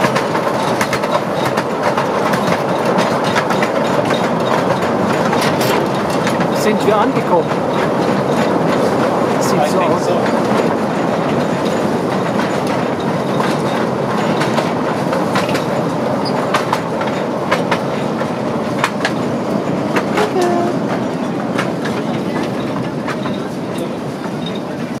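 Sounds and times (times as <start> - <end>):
toy train rumbling on track: 0.0 - 25.0
wheels clicking and rattling: 0.0 - 25.0.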